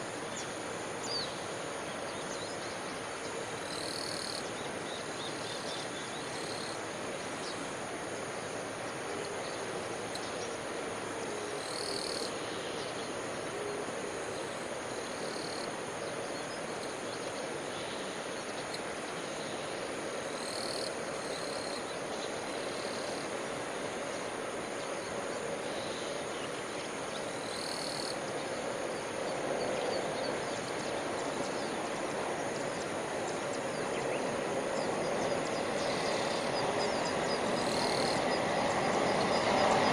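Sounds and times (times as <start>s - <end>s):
frogs croaking: 0.0s - 39.9s
outdoor background noise: 0.0s - 39.9s.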